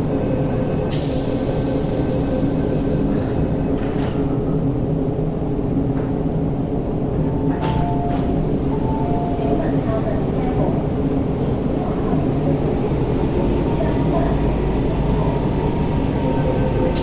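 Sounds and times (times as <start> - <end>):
stationary train humming: 0.0 - 17.0.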